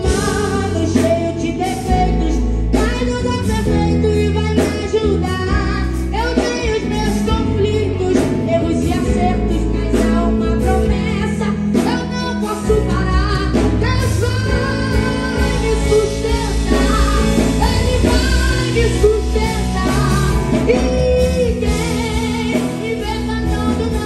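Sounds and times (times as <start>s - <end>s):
drums: 0.0s - 24.0s
electric guitar: 0.0s - 24.0s
woman singing into microphone: 0.0s - 24.0s.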